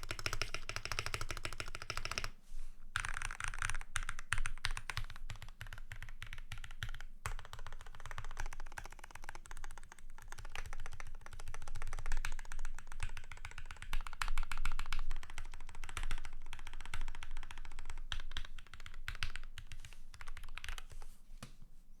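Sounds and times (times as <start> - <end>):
mechanical keyboard typing: 0.0 - 2.3, 3.0 - 21.0.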